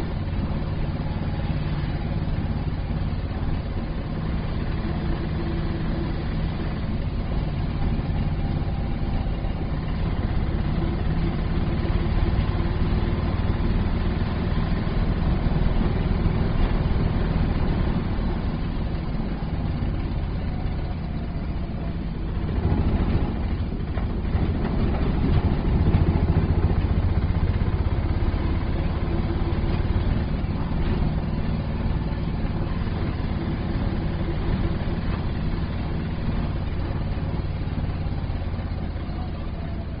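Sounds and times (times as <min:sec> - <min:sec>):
auto rickshaw engine running: 0:00.0 - 0:40.0.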